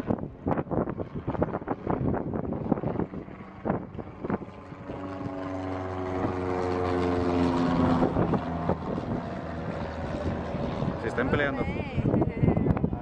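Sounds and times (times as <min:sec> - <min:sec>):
propeller plane flying overhead: 0:00.0 - 0:13.0
wind buffeting microphone: 0:00.0 - 0:13.0.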